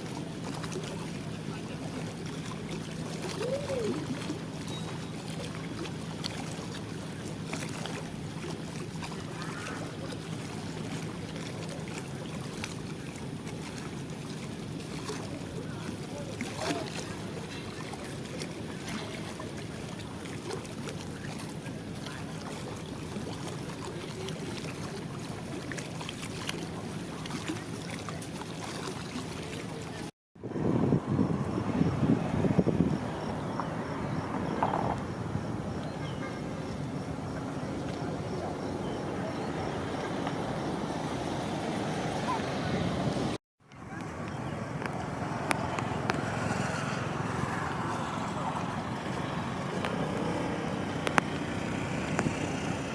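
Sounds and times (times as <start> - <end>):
low engine hum: 0.0 - 52.9
outdoor noise: 0.0 - 52.9.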